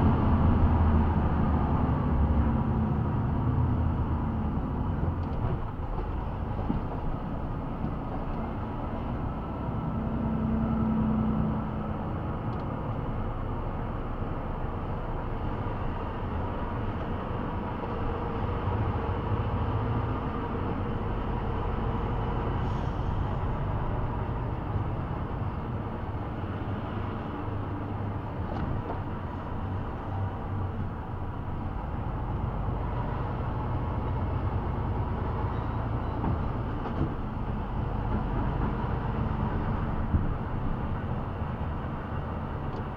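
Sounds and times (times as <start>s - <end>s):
vehicle engine and road rumble: 0.0s - 42.9s.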